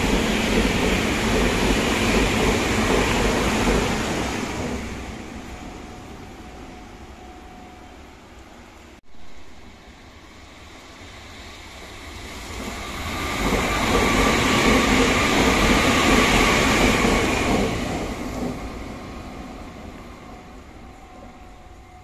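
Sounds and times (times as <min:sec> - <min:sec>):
electric train rumbling past: 0:00.0 - 0:22.0
steady high train whine: 0:00.0 - 0:22.0.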